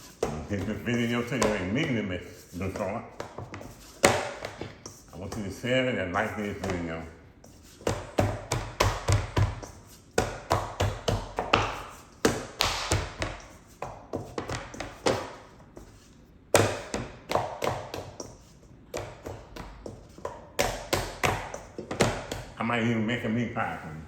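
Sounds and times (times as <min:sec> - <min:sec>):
dough kneaded on a board: 0:00.0 - 0:22.6.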